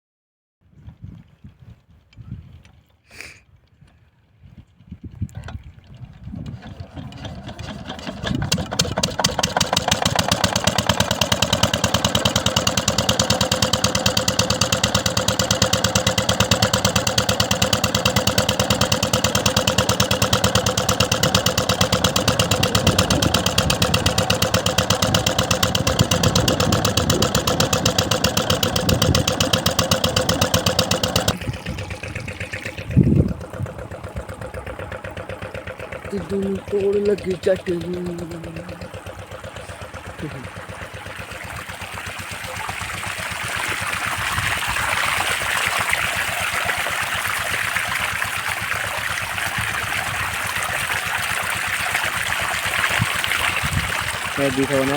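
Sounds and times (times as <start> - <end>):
water pump engine running: 5.0 - 54.9.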